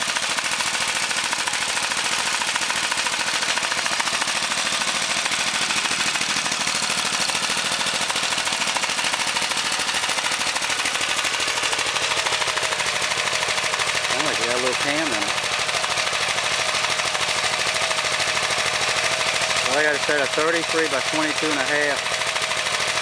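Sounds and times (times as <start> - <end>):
small engine running with exhaust pops: 0.0 - 23.0.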